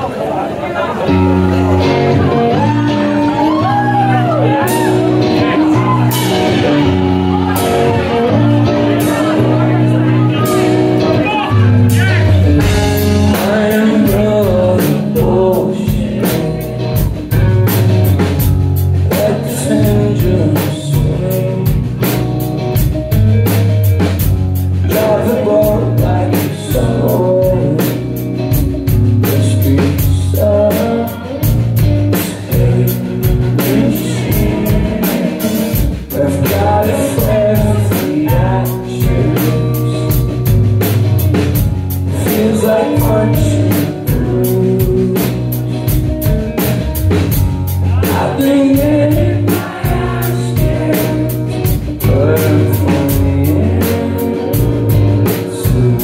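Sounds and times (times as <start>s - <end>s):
bass guitar: 0.0s - 56.0s
electric guitars: 0.0s - 56.0s
man singing: 1.1s - 23.6s, 24.6s - 56.0s
drum kit beat: 1.1s - 56.0s.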